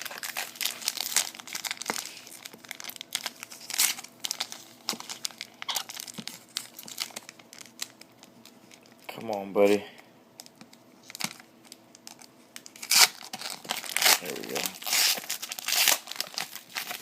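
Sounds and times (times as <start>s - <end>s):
foil wrapper crinkling and tearing: 0.0s - 9.1s, 10.4s - 17.0s.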